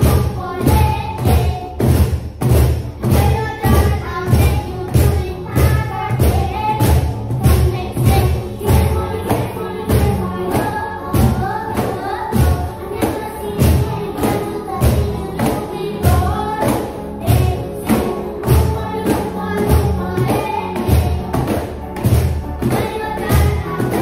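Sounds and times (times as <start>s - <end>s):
pop song with woman singing: 0.0s - 2.0s, 3.0s - 24.0s
cajons struck by hand: 0.0s - 24.0s.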